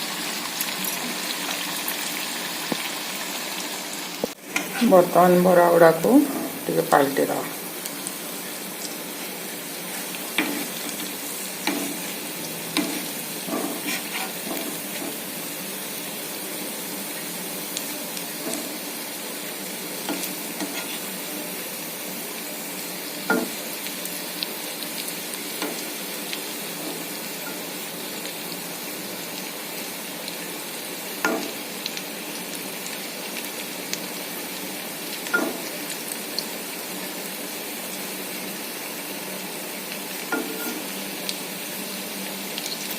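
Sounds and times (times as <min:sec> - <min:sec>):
fritters sizzling in hot oil: 0:00.0 - 0:42.9.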